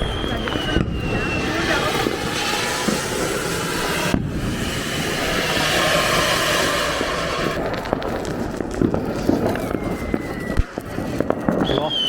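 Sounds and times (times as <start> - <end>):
firecracker fountain hissing: 0.0 - 12.0
firework crackles: 0.0 - 12.0.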